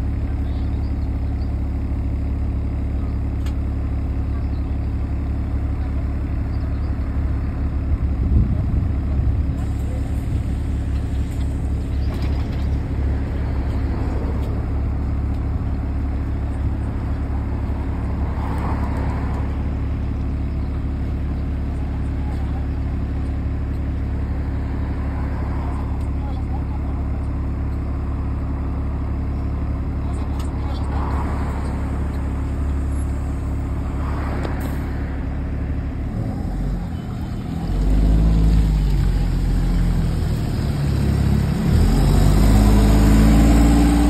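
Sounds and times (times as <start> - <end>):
bus engine idling: 0.0 - 44.0
low engine rumble: 0.0 - 44.0.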